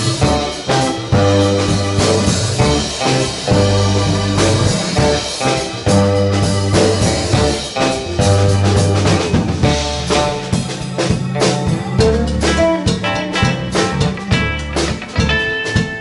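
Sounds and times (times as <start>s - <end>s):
amplified electric guitars: 0.0s - 16.0s
drum kit hits: 0.0s - 16.0s
electric bass notes: 0.0s - 16.0s.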